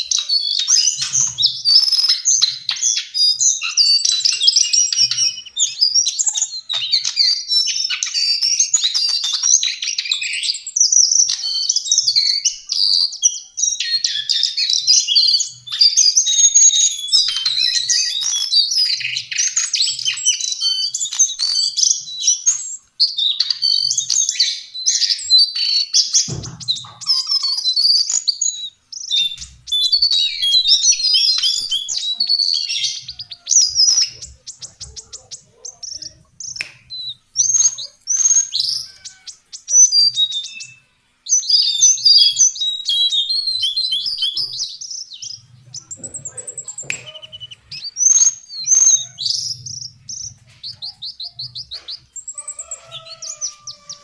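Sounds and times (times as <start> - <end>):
bird singing high warble: 0.0 - 54.0.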